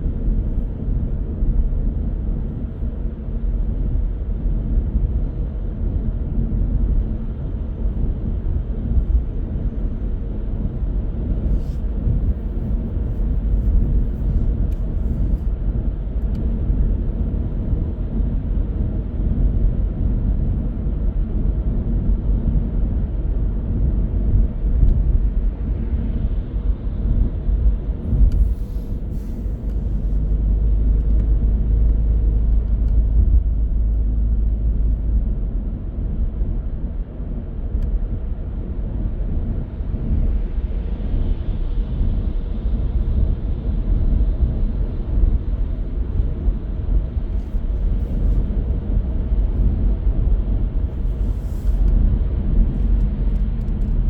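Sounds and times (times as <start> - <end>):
car tyres and engine rumble: 0.0 - 54.0.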